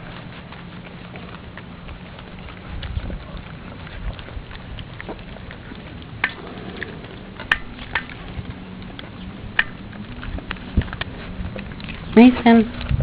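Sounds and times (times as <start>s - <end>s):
low steady hum: 0.0s - 13.0s
puppies' light clicks and taps: 0.0s - 13.0s.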